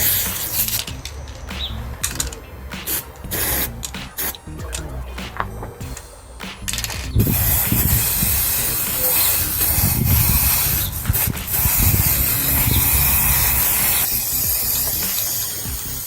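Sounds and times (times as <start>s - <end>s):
spray-paint can hissing: 0.0s - 4.6s, 6.5s - 16.0s.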